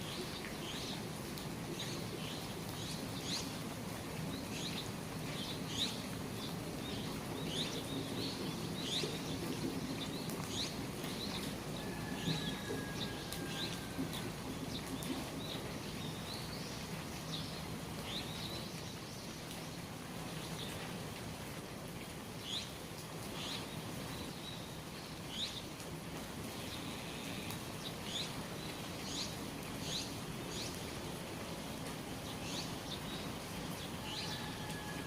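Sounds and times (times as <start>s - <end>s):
rain falling from eaves: 0.0s - 35.0s.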